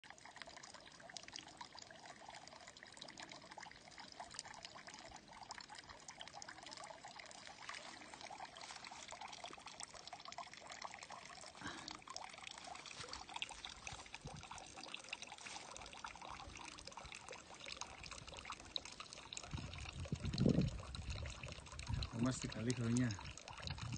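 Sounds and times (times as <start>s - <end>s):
water trickling into trough: 0.0s - 23.9s.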